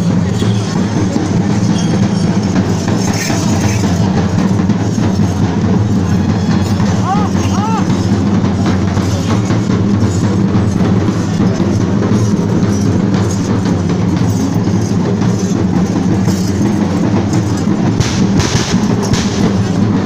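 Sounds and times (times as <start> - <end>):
loud low-pitched drums: 0.0 - 20.0.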